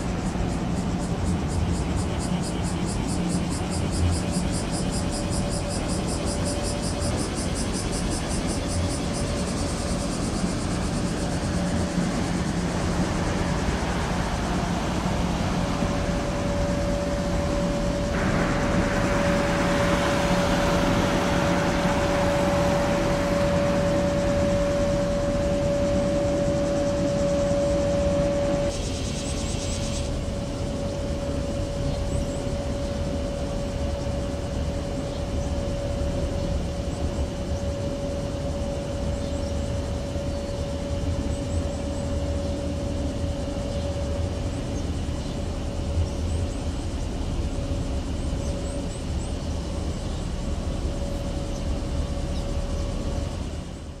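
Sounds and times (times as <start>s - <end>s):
constant humming tone: 0.0s - 54.0s
ship engine drone: 0.0s - 54.0s.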